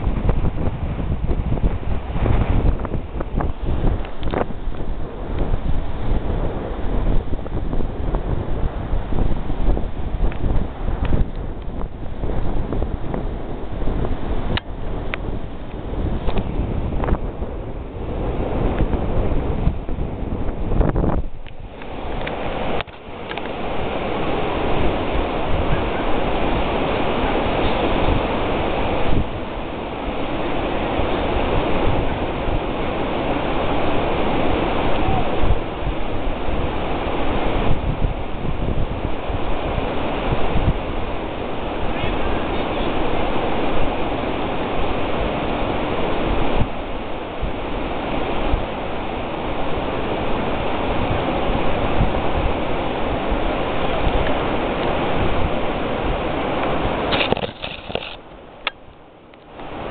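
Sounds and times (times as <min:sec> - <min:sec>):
surf breaking on a beach: 0:00.0 - 0:59.9
wind rumbling on microphone: 0:00.0 - 0:59.9.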